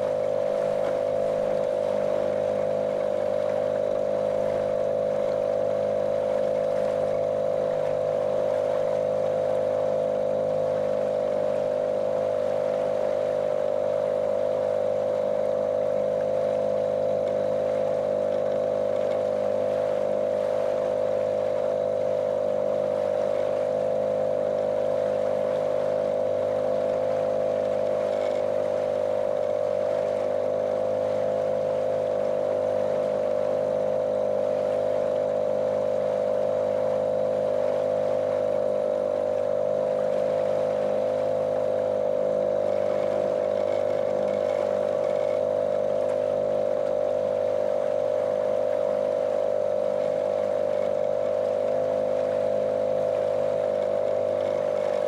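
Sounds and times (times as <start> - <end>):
motorboat motor droning: 0.0 - 55.0.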